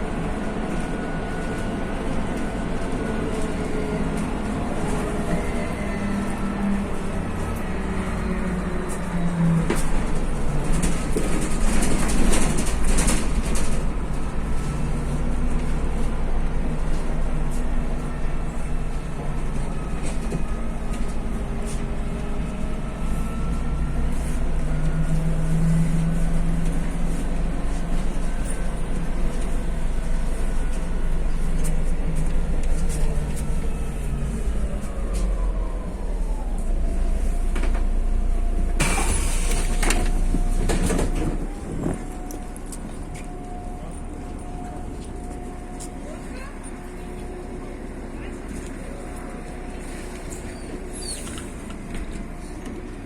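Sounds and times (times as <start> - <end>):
bus engine and road noise: 0.0 - 53.0.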